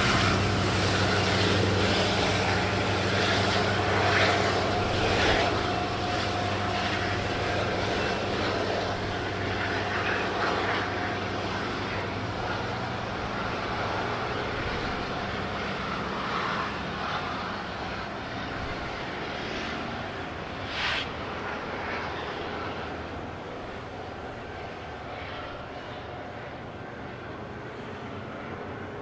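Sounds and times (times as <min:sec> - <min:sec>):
large vehicle engine rumble: 0:00.0 - 0:29.0.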